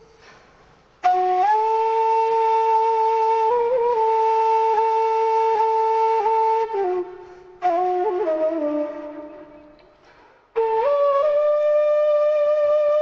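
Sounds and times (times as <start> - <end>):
flute-like wind instrument: 1.0 - 9.8, 10.6 - 13.0.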